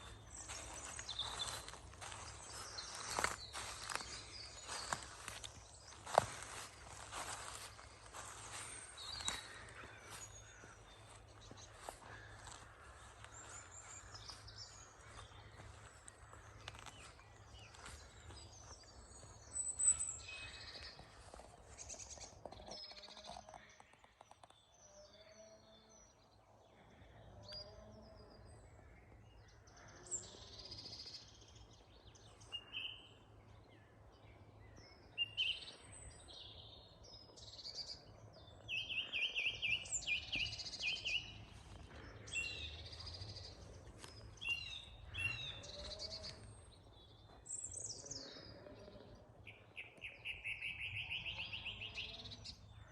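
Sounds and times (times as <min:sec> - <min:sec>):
birds singing and calling: 0:00.0 - 0:52.9.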